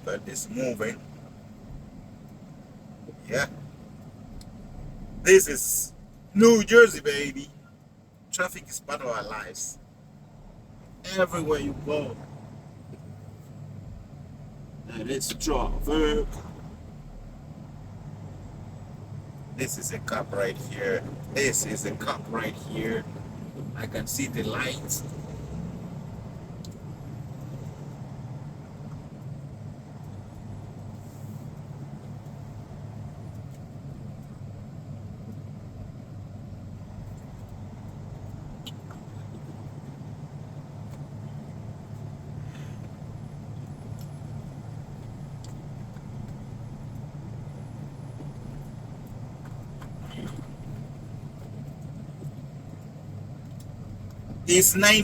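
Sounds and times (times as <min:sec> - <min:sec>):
diesel engine hum: 0:00.0 - 0:55.0.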